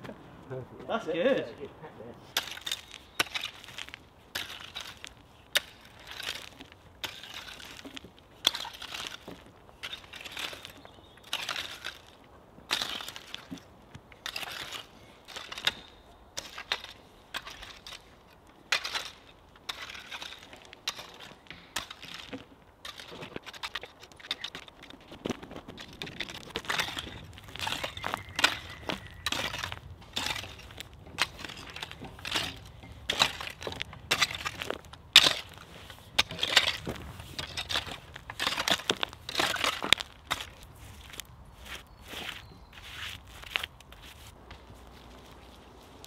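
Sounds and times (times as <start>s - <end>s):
tool scraping soil: 2.3s - 46.0s.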